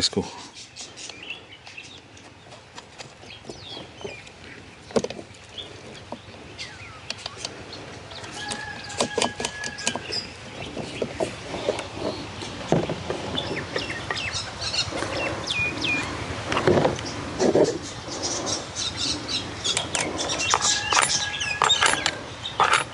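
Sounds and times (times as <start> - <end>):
small birds chirping: 0.0 - 22.9
chickens clucking: 2.2 - 22.9.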